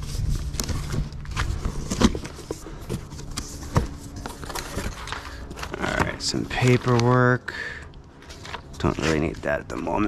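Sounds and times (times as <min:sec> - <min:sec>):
cardboard scraping and rustling: 0:00.0 - 0:07.4, 0:08.2 - 0:10.0.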